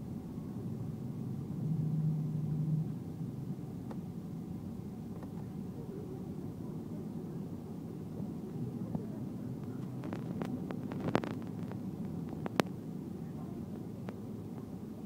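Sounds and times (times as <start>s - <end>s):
low rumble inside airplane cabin: 0.0s - 15.0s.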